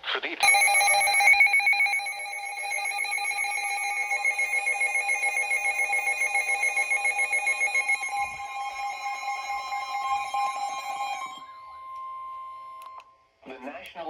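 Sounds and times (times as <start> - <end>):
harsh electronic alarm tones: 0.4 - 12.8.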